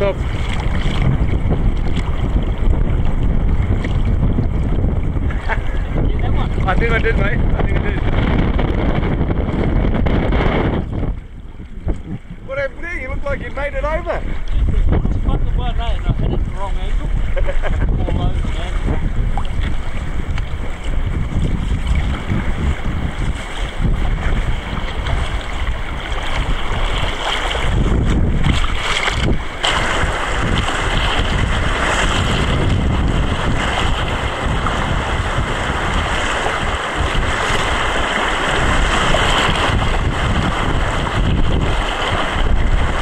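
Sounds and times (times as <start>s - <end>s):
river water rushing and splashing: 0.0s - 15.0s, 18.2s - 43.0s
wind buffeting microphone: 0.0s - 43.0s.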